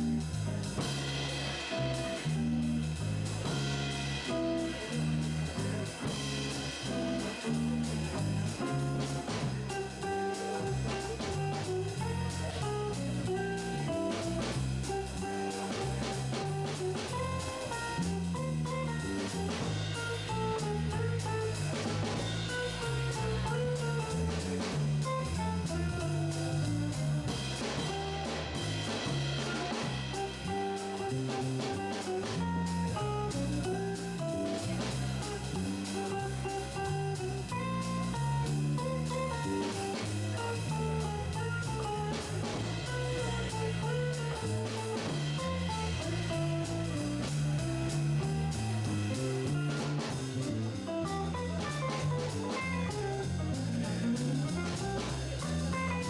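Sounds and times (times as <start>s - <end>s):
bass line: 0.0s - 56.0s
drum cymbals: 0.0s - 56.0s
guitar: 0.0s - 56.0s.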